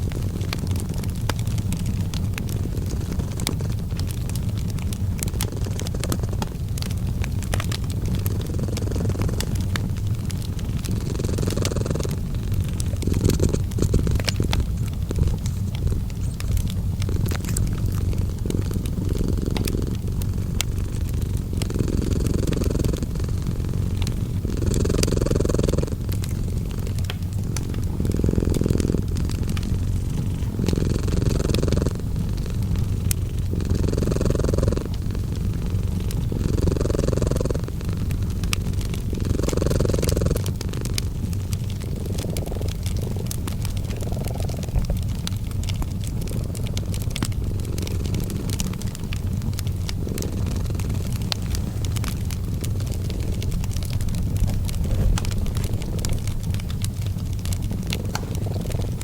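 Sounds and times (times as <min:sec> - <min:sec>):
cat purring: 0:00.0 - 0:59.0
fireplace crackling: 0:00.0 - 0:59.0.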